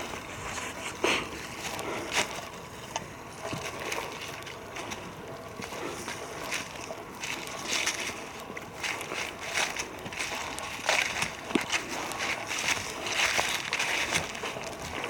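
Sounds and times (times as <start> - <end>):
footsteps crunching dry leaves: 0.0 - 15.0
leaves rustling: 0.0 - 15.0.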